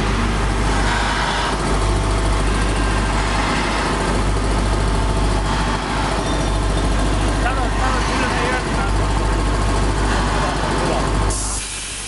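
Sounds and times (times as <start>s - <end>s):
drilling machine running: 0.0s - 12.0s.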